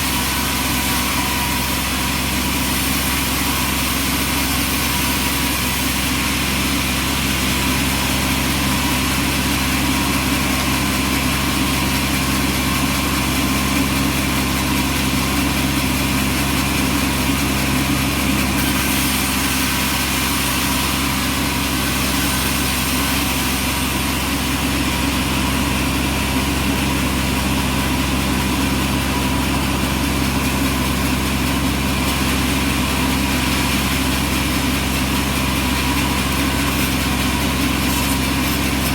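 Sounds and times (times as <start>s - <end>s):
sawmill engine drone: 0.0s - 38.9s.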